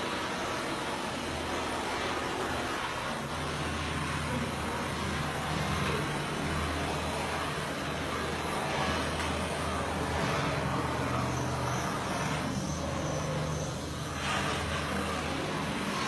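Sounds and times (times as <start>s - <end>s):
gas torch flame hissing: 0.0s - 16.0s.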